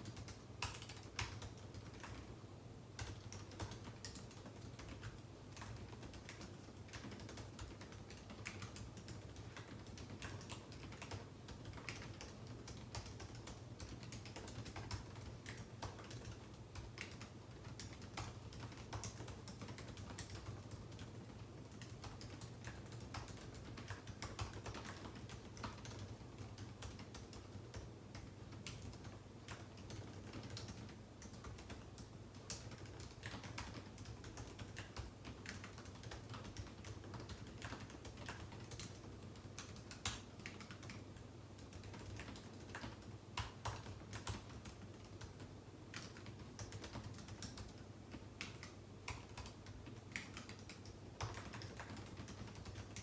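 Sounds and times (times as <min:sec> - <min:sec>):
typing on computer keyboard: 0:00.0 - 0:02.4, 0:03.0 - 0:53.0.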